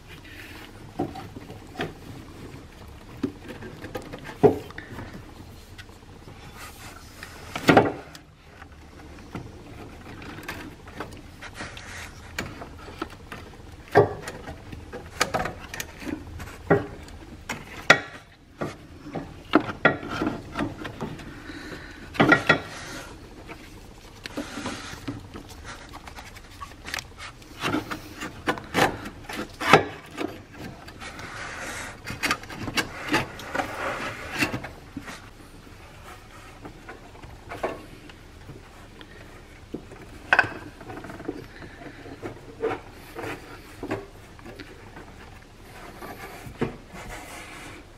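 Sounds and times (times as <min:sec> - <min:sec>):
metal and rubber scraping: 0:00.0 - 0:47.9.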